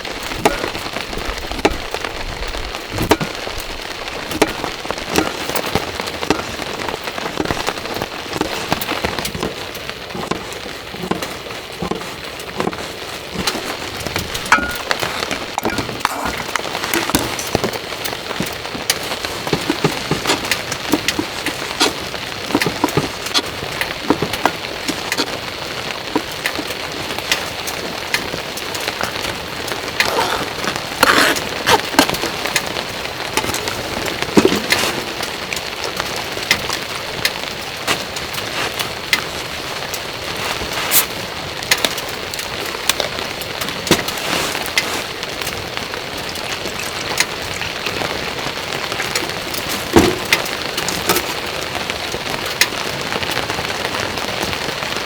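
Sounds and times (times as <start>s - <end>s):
heavy rain falling: 0.0s - 55.0s
raindrops striking surfaces: 0.0s - 55.0s.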